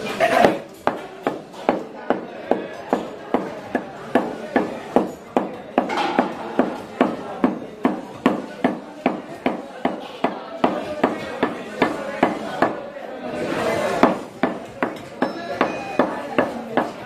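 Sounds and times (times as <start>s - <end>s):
cleaver chopping meat on wood: 0.3s - 12.8s, 14.0s - 17.0s.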